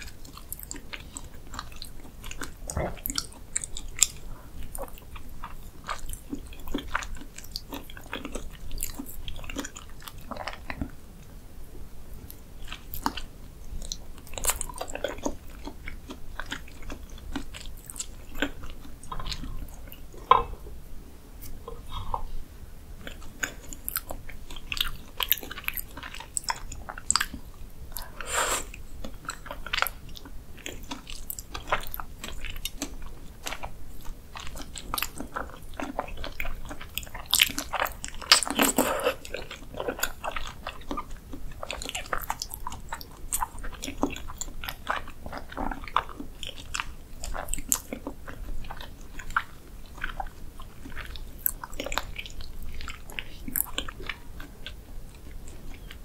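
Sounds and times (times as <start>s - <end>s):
biting and chewing: 0.0s - 11.0s, 12.2s - 20.8s, 23.0s - 56.0s.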